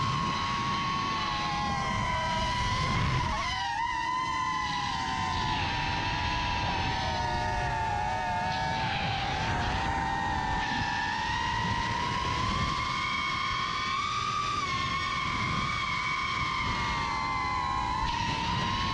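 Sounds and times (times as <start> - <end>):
drone motors whining: 0.0 - 18.9
wind rush: 0.0 - 18.9.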